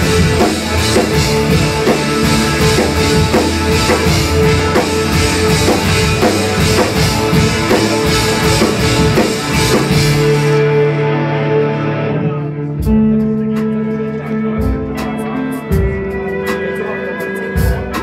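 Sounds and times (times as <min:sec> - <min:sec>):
steady drum beat: 0:00.0 - 0:11.1, 0:12.6 - 0:18.0
bass guitar: 0:00.0 - 0:18.0
electric guitar: 0:00.0 - 0:18.0.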